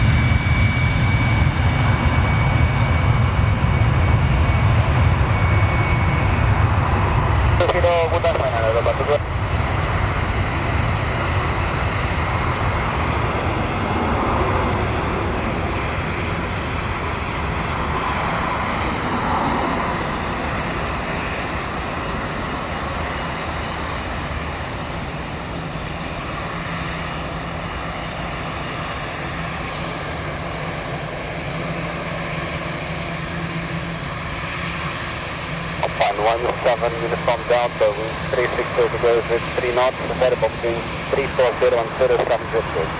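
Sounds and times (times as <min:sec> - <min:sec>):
jet airliner engines roaring: 0:00.0 - 0:42.9.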